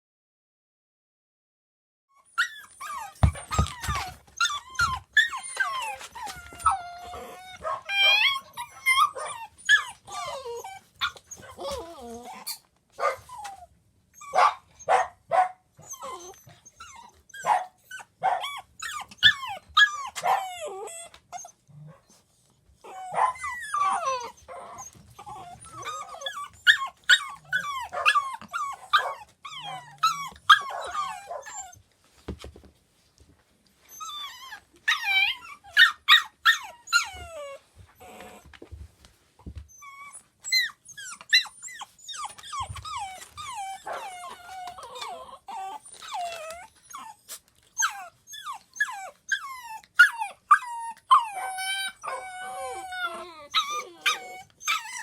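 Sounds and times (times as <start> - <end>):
puppies whining and whimpering: 2.2 - 12.7, 13.3 - 14.4, 15.8 - 32.0, 33.8 - 38.8, 39.4 - 55.0
puppies yipping and barking: 2.3 - 13.6, 15.8 - 21.6, 22.9 - 31.9, 34.0 - 38.5, 39.6 - 55.0.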